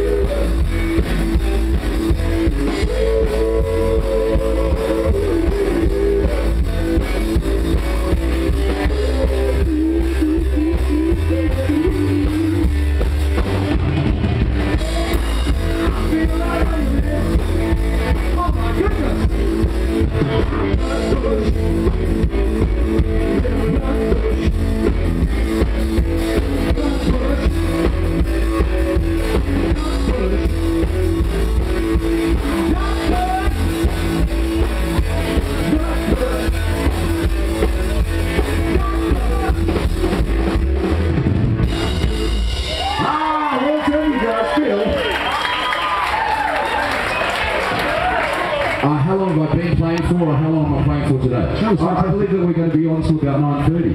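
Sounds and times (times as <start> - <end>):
drum kit: 0.0 - 44.2
electric guitar: 0.0 - 50.1
country rock band playing: 0.0 - 53.9.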